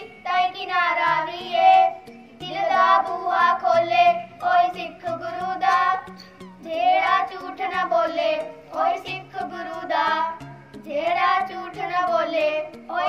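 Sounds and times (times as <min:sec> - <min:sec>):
children singing into microphones: 0:00.0 - 0:13.0.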